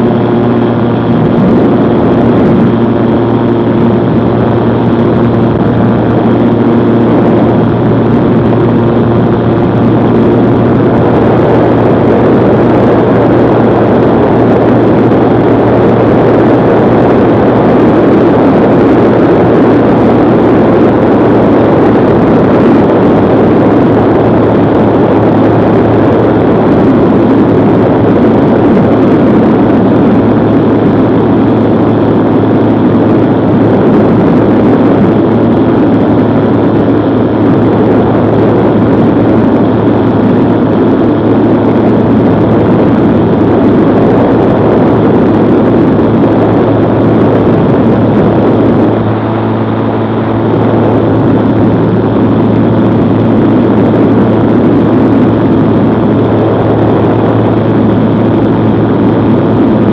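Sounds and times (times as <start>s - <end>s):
gyrocopter engine and propeller drone: 0.0s - 59.9s
low hum: 0.0s - 59.9s.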